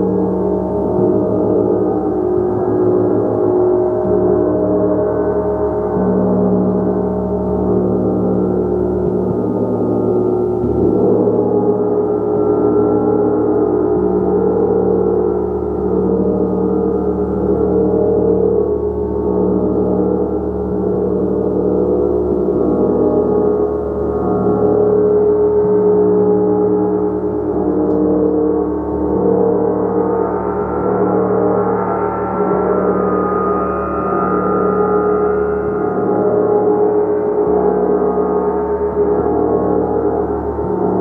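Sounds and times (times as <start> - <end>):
gong shimmering: 0.0 - 41.0.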